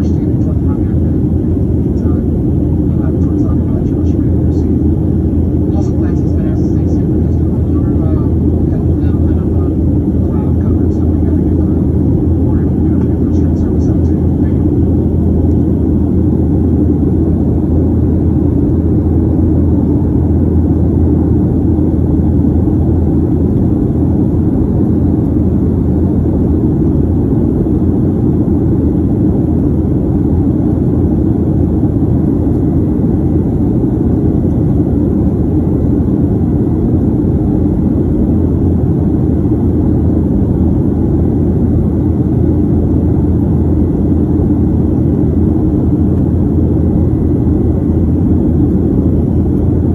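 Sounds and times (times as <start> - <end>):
jet engines roaring in cabin: 0.0 - 49.9.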